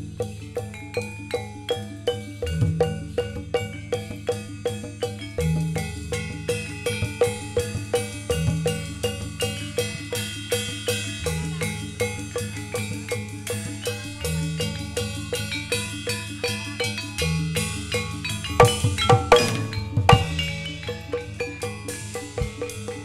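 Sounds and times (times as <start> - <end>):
drums beating: 0.0 - 23.0
gamelan metal keys: 0.0 - 23.0.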